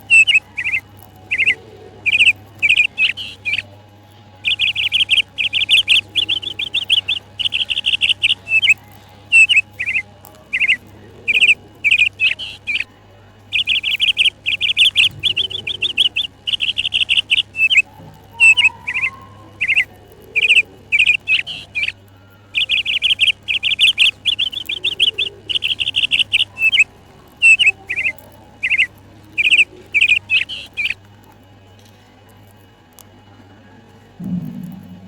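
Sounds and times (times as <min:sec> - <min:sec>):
budgerigar chirping: 0:00.0 - 0:03.7, 0:04.4 - 0:12.9, 0:13.5 - 0:31.0.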